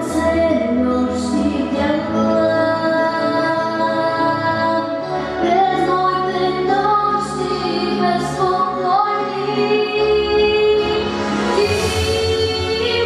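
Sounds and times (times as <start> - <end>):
instrumental accompaniment: 0.0 - 13.0
woman singing: 0.0 - 13.0.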